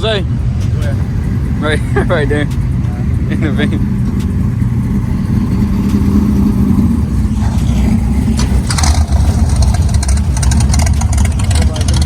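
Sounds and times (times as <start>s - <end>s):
car engine running loudly: 0.0s - 12.0s.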